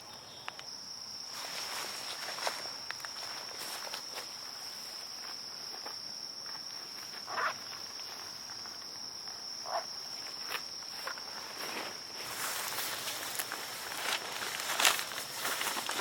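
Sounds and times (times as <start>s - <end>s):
insects droning high-pitched: 0.0s - 16.0s.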